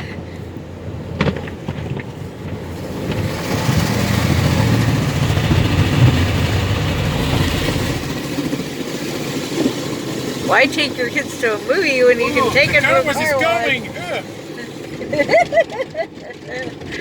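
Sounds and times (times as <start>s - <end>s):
low rumble: 0.0s - 15.9s
car wash water and machinery: 0.0s - 17.0s.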